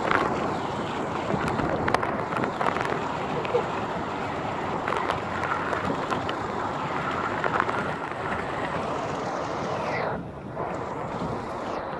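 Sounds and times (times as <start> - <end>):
heavy rain: 0.0 - 9.9
hurricane wind: 0.0 - 11.9.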